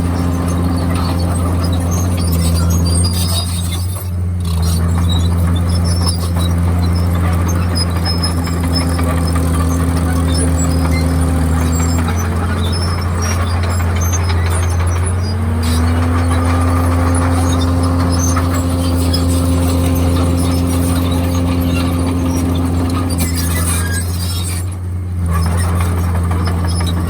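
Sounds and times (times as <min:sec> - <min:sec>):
bulldozer diesel engine under load: 0:00.0 - 0:27.0.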